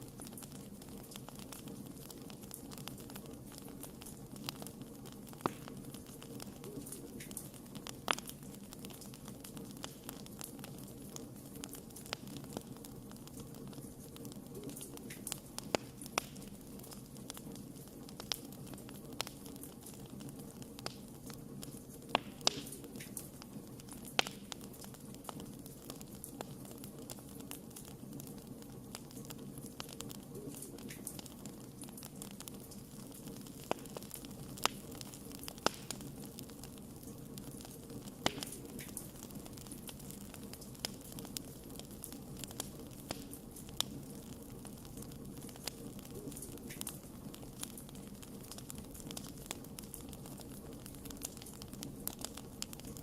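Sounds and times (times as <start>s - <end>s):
wood fire burning: 0.0s - 53.0s.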